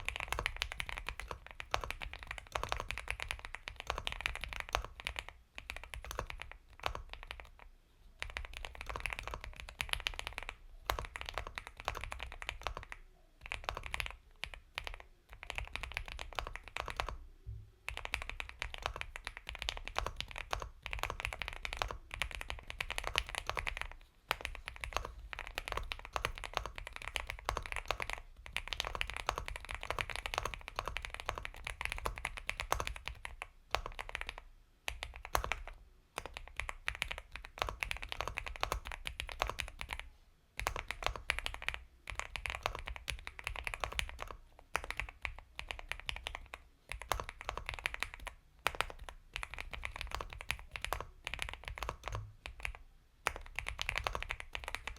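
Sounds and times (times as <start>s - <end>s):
fast typing on mechanical keyboard: 0.0s - 17.2s, 17.9s - 54.9s.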